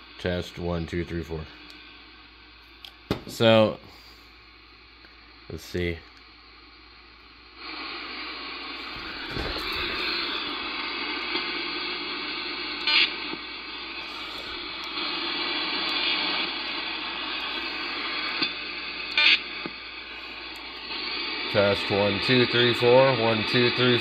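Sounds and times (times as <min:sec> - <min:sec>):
radio static hiss: 0:00.0 - 0:24.0
short static bursts: 0:01.8 - 0:24.0.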